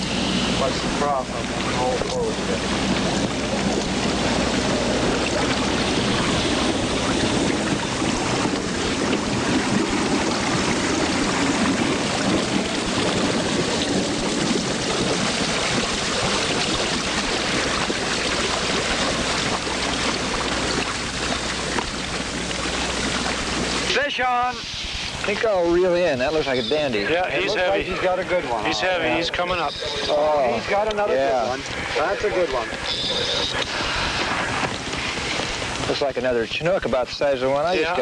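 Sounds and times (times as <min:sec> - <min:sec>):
rushing wind: 0:00.0 - 0:27.7, 0:31.5 - 0:36.0
low steady hum: 0:00.0 - 0:38.0
water rushing: 0:00.0 - 0:38.0.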